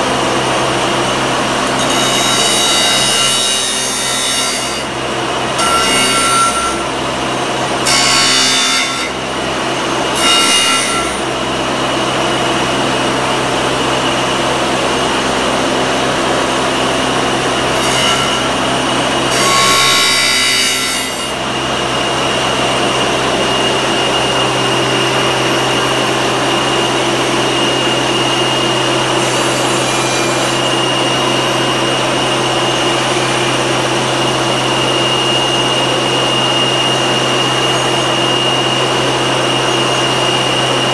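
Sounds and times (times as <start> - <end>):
wheel motor hum and whine: 0.0 - 8.5, 9.1 - 40.9.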